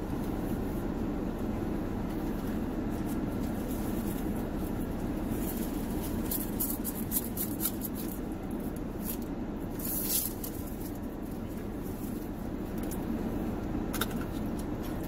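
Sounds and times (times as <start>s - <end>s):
car air conditioning hum: 0.0s - 15.0s
car engine running: 0.0s - 15.0s.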